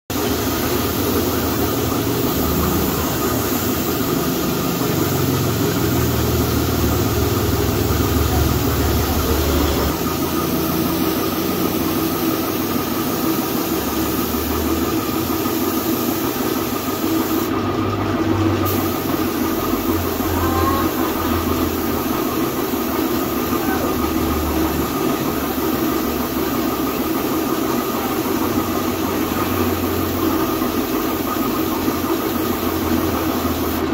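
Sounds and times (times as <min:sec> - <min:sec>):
spray gun hissing: 0:00.1 - 0:17.6, 0:18.6 - 0:33.9
air compressor running: 0:00.1 - 0:33.9.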